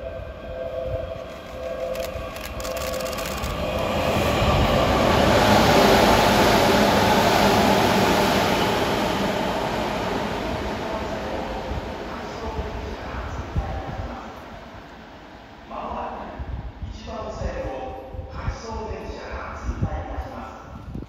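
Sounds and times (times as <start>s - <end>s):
electric train passing at speed: 0.0s - 19.9s.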